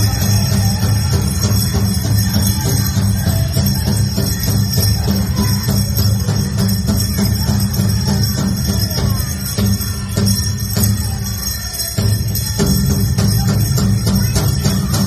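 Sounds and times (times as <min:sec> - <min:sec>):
jingling bells: 0:00.0 - 0:15.0.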